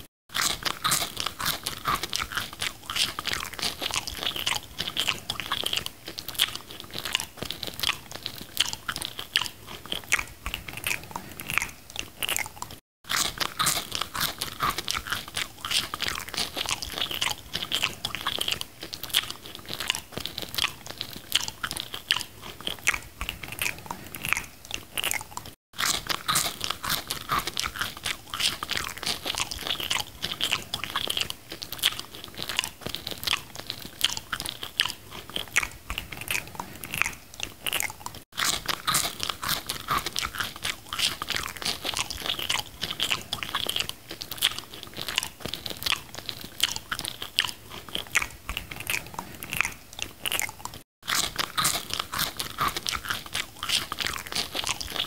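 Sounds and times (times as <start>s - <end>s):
crunchy bites and chewing: 0.0s - 55.0s.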